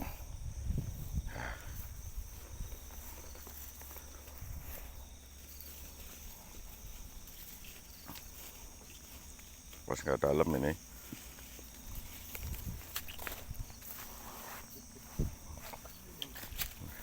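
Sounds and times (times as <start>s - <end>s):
high insect drone: 0.0s - 17.0s
soft ticks or rustles: 1.7s - 17.0s.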